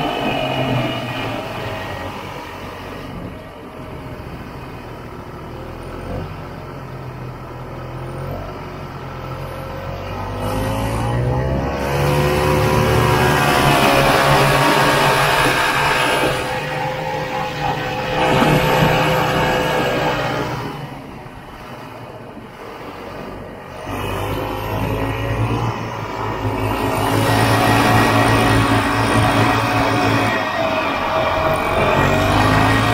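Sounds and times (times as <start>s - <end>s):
snowmobile two-stroke engine: 4.0s - 32.9s.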